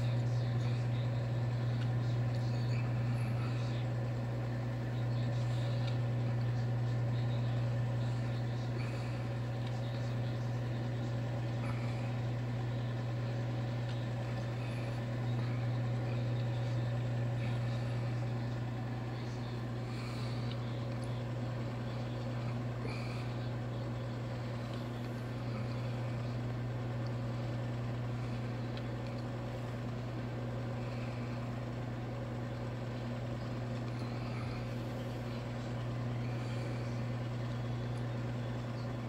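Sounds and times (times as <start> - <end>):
microwave oven humming: 0.0 - 39.0.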